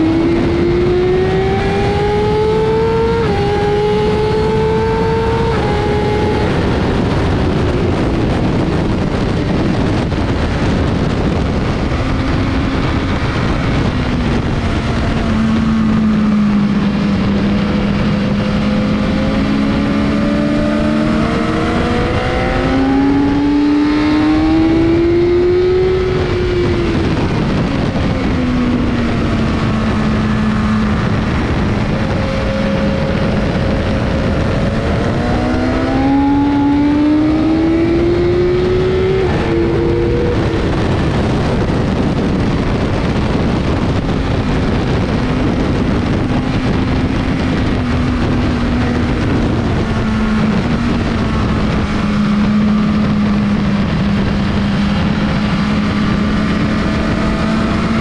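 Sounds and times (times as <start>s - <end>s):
heavy wind rush: 0.0s - 58.0s
motorcycle engine revving: 0.0s - 58.0s.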